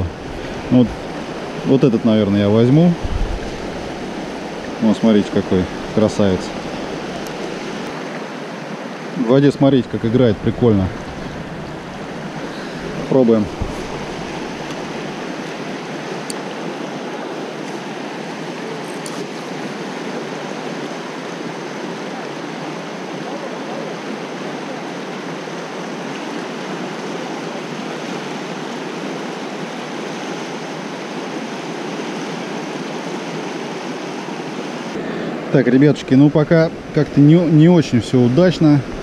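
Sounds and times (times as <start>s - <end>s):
water rushing over rocks: 0.0s - 39.0s.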